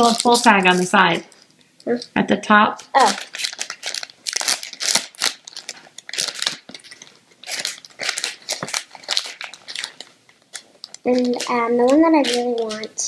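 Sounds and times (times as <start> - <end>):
foil pouch crinkling: 0.0 - 1.5, 2.9 - 13.0.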